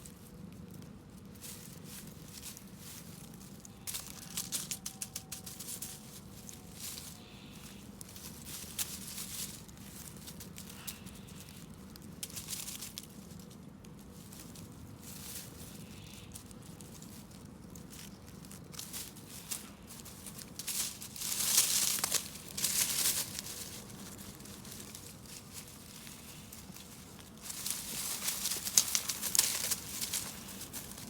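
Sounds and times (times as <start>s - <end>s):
crinkling rustling: 0.0s - 31.0s.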